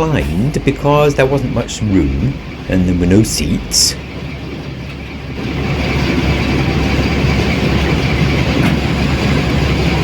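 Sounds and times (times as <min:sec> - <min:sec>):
locomotive engine rumbling: 0:00.0 - 0:10.0.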